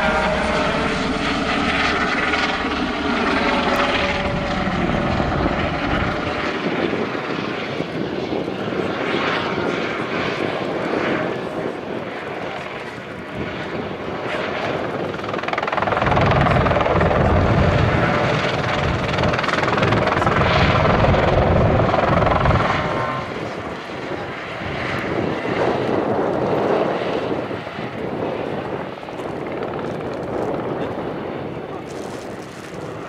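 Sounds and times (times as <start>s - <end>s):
helicopter rotor beating: 0.0s - 33.0s.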